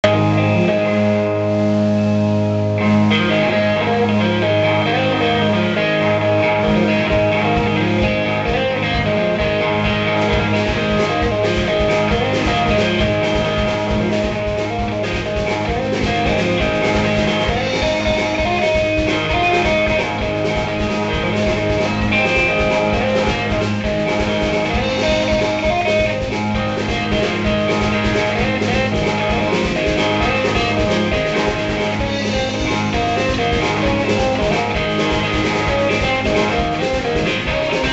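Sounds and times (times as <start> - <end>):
drum kit beat: 0.0 - 37.9
electric guitar: 0.0 - 37.9.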